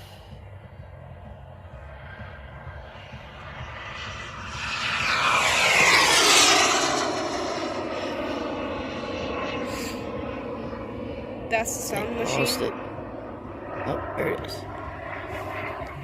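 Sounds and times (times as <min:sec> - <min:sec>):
model airplane engine flying past: 0:00.0 - 0:16.0.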